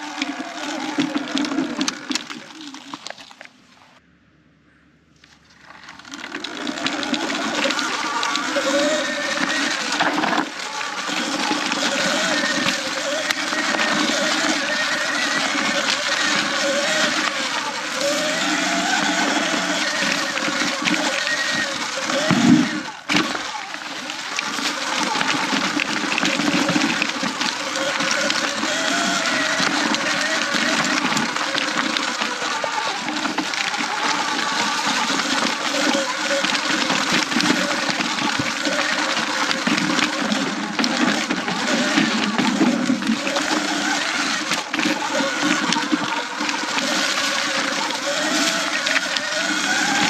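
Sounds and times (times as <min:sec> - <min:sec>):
electric motor whining: 0:05.6 - 0:50.0.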